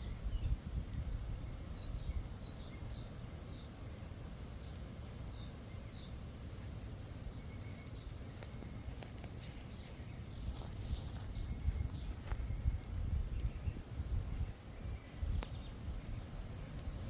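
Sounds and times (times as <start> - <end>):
faint high bird chirps: 1.3 - 17.0.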